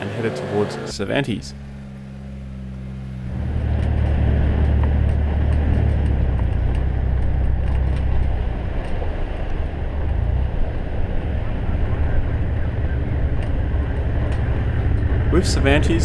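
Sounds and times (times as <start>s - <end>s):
engine and tyres rumbling: 0.0s - 16.0s.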